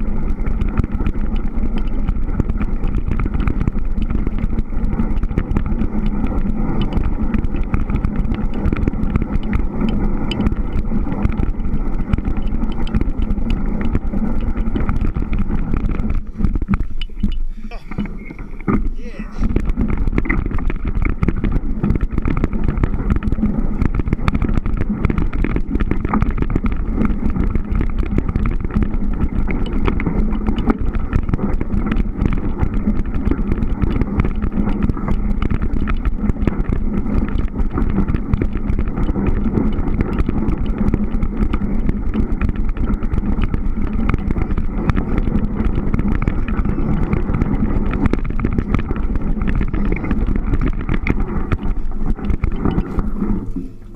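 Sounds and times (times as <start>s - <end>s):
bike rolling over snow: 0.0s - 53.9s
crunches and rattling clicks: 0.2s - 53.9s.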